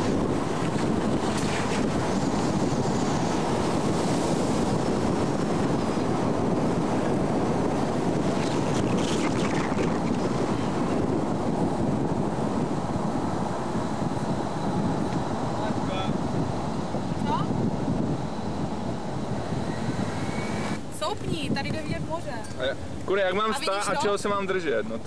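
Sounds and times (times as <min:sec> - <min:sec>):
car running noise: 0:00.0 - 0:21.8
wind buffeting microphone: 0:00.0 - 0:24.8.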